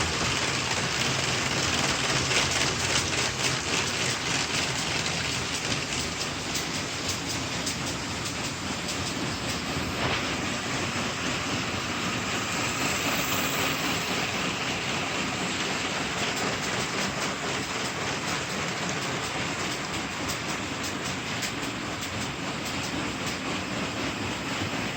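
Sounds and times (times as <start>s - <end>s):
quick regular locomotive beats: 0.0s - 24.9s
rail clicks: 0.0s - 24.9s
train rushing along track: 0.0s - 24.9s.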